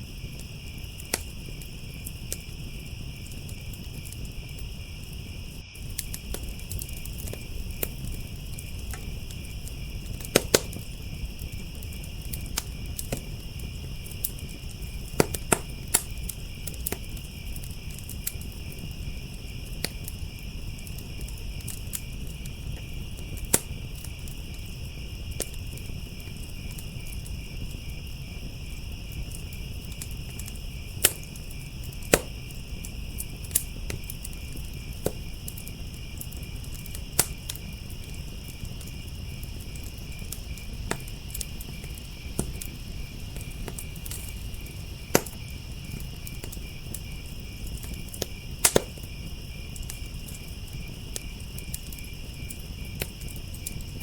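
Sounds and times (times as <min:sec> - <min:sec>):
crickets chirping: 0:00.0 - 0:54.0
fire crackling and popping: 0:00.0 - 0:54.0.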